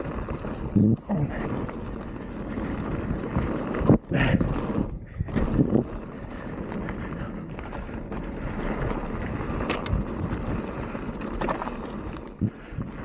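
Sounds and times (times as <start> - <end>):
bike rattles and knocks: 0.0 - 13.0
mountain bike rolling on dirt: 0.0 - 13.0.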